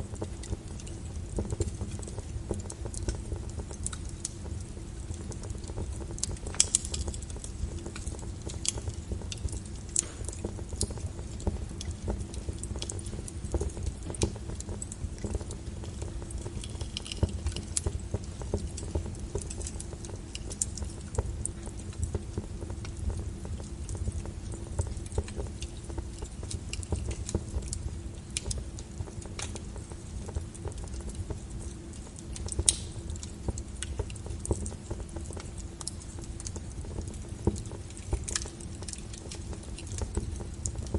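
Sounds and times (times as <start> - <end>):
fire crackles and pops: 0.0 - 40.9
low rumble of fire: 0.0 - 40.9.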